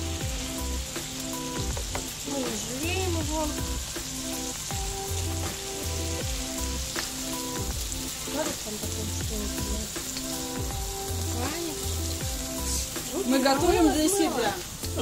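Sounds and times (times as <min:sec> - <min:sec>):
background music: 0:00.0 - 0:15.0
meat and onion sizzling in oil: 0:00.0 - 0:15.0.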